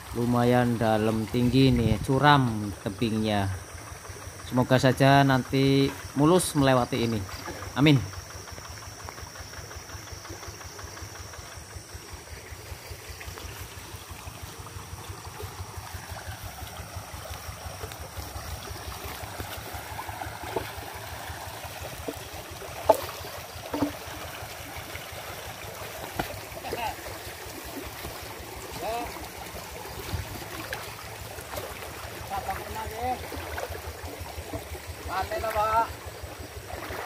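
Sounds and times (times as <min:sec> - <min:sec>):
diesel engine idling: 0:00.0 - 0:36.7
running creek water: 0:00.0 - 0:37.0.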